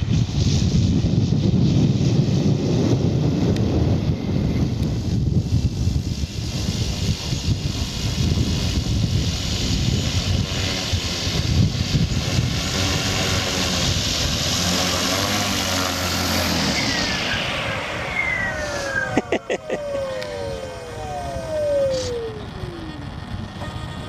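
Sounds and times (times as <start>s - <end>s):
propeller whirring: 0.0s - 24.0s
steady pitched hum: 3.0s - 24.0s.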